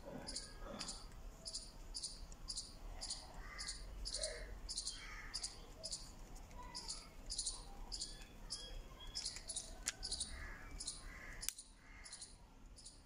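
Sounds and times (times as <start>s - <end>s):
birds chirping short high calls: 0.3s - 13.0s.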